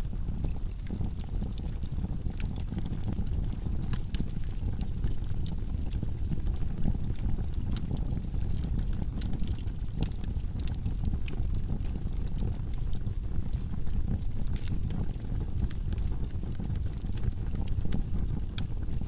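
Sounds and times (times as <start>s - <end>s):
fire crackling and popping: 0.0s - 19.0s
low rumble of flame: 0.0s - 19.0s.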